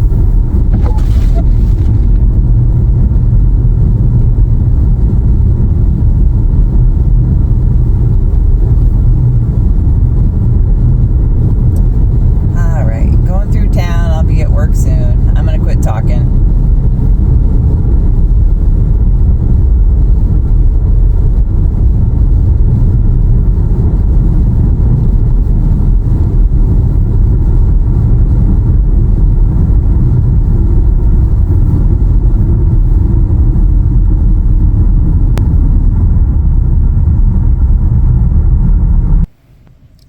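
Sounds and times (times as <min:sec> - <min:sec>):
car tyres and engine rumble: 0:00.0 - 0:40.0.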